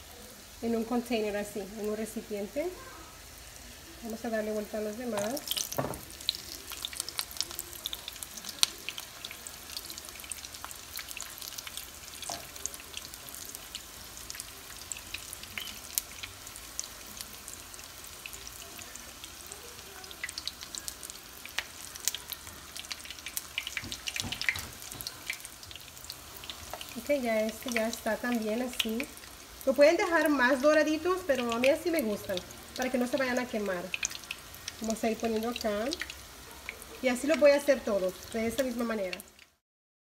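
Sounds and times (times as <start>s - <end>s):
food deep-frying in oil: 0.0s - 39.6s.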